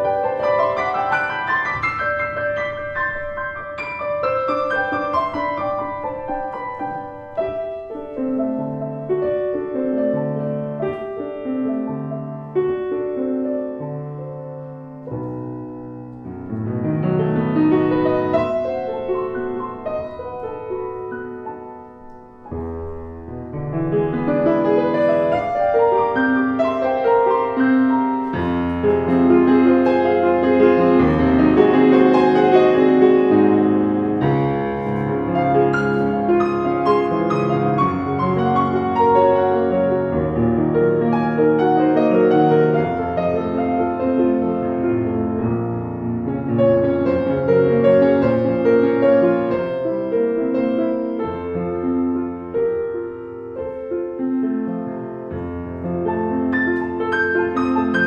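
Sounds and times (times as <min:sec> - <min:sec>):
solo piano classical piece: 0:00.0 - 0:58.0.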